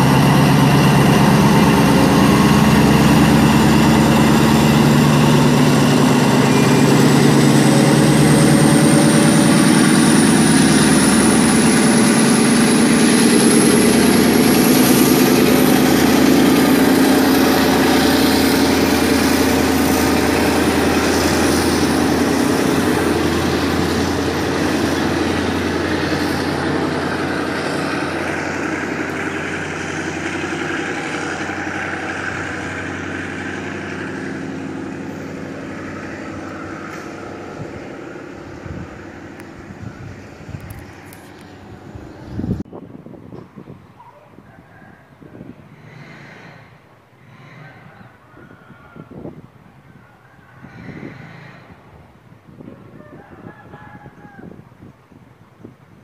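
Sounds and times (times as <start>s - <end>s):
diesel train passing: 0.0s - 53.1s.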